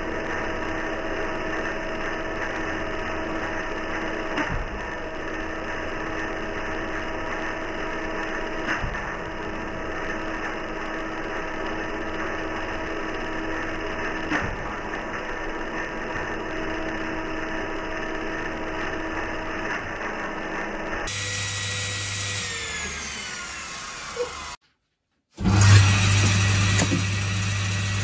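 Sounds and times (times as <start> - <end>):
circular saw blade whine: 0.0 - 24.6.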